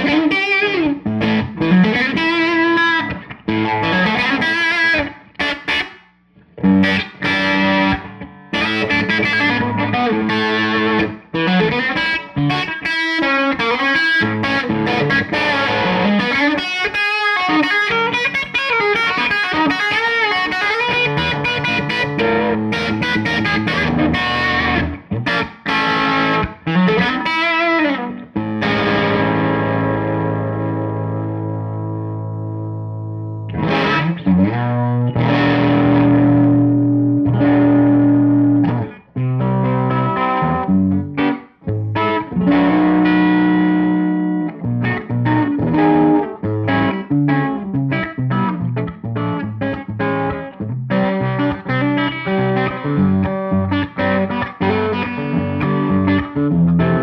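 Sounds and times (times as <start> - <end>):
driven electric guitar: 0.0 - 57.0.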